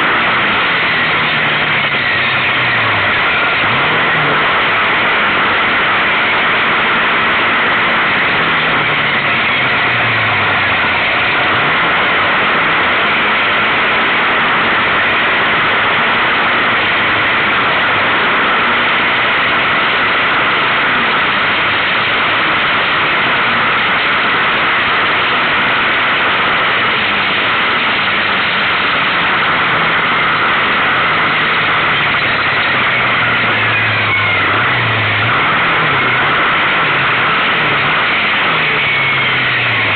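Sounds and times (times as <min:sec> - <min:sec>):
loud steady rushing noise: 0:00.0 - 0:39.9
quad bike engine revving: 0:00.0 - 0:39.9.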